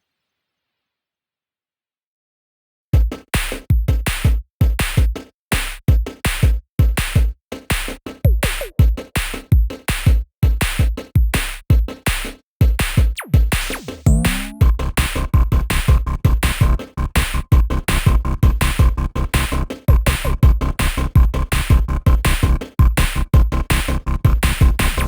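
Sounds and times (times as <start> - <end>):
electronic music with drum-machine beat: 3.0 - 25.0.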